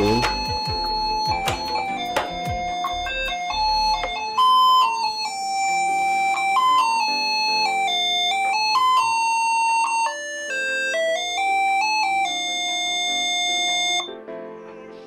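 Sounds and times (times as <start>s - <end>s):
simple electronic melody: 0.0s - 14.8s.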